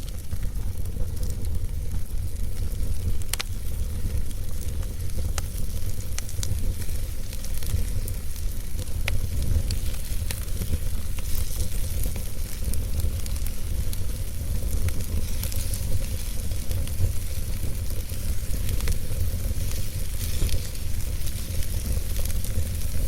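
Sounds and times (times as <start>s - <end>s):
fire flames rumbling: 0.0s - 23.0s
logs crackling and popping: 0.0s - 23.0s.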